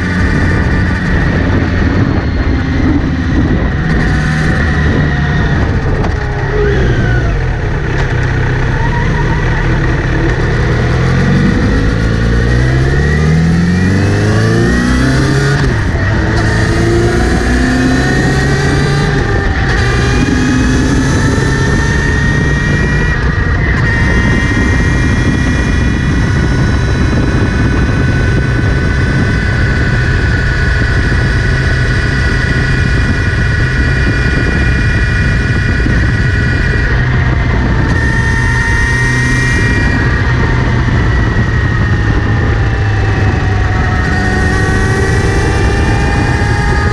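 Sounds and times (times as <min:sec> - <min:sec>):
high whirring whine: 0:00.0 - 0:46.9
motorcycle engine running: 0:00.0 - 0:46.9.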